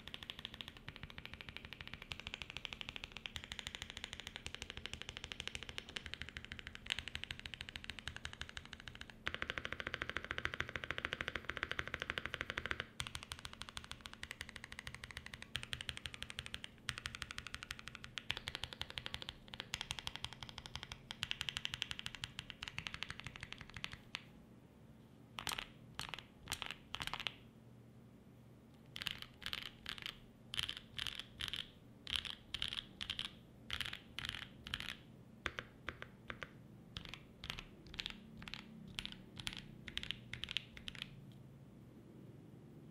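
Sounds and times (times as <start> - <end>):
mechanical keyboard typing: 0.0 - 24.2, 25.4 - 27.4, 28.8 - 41.2.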